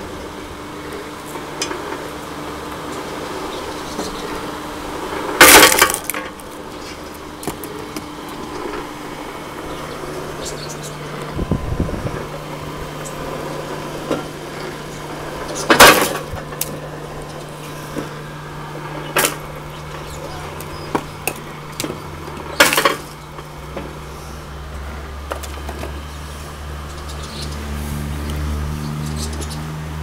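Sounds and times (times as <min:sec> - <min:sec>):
deeper hum: 0:00.0 - 0:30.0
machine motor hum: 0:00.0 - 0:30.0.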